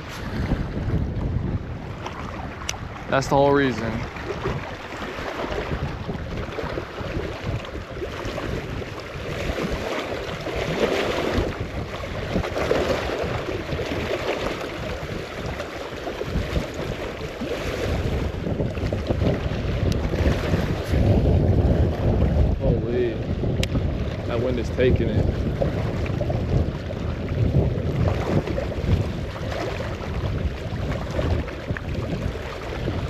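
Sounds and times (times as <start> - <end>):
wind gusting across microphone: 0.0 - 33.0.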